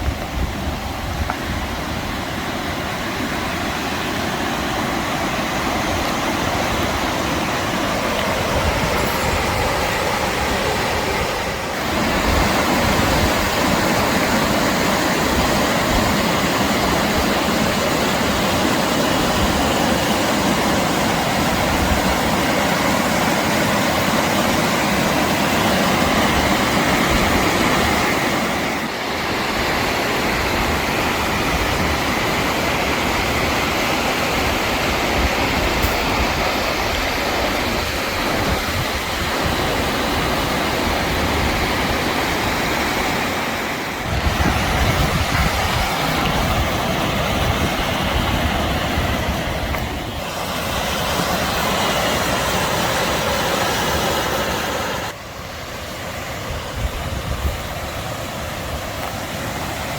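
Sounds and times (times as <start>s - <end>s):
river water and waterfall roar: 0.0s - 59.9s.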